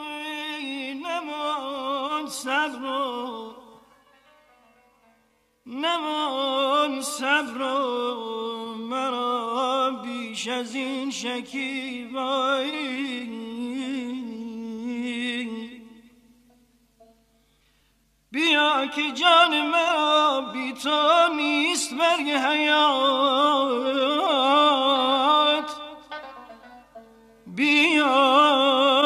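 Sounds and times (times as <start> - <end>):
man singing wordless melody: 0.0 - 4.3, 5.6 - 16.7, 18.3 - 29.0.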